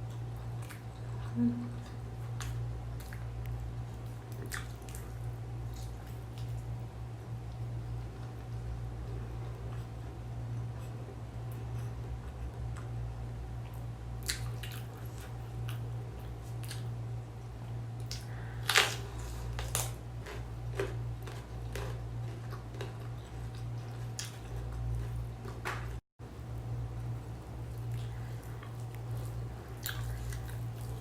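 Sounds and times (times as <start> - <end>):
chewing and squishing: 0.0 - 13.0, 13.6 - 26.0, 27.5 - 31.0
steady low hum: 0.0 - 31.0.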